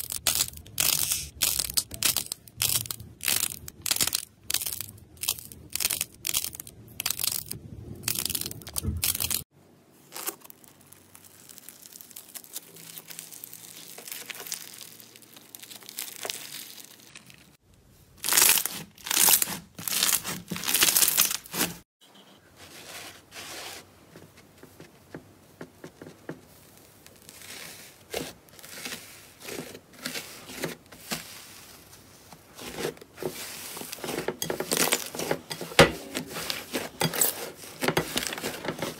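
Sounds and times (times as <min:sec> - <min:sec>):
slime and clay crackling: 0:00.0 - 0:21.8, 0:25.8 - 0:38.9.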